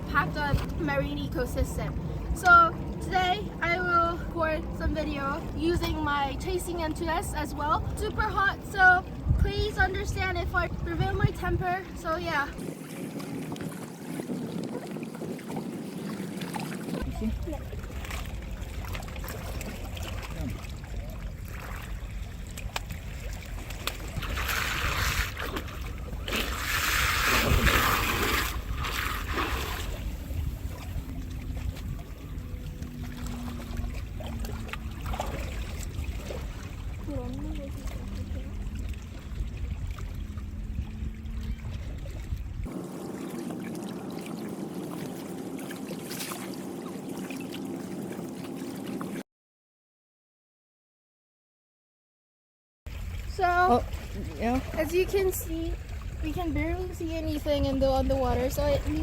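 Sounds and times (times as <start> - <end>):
steady low rumble: 0.0 - 48.6
sea water washing and splashing: 0.0 - 49.2, 52.9 - 59.0.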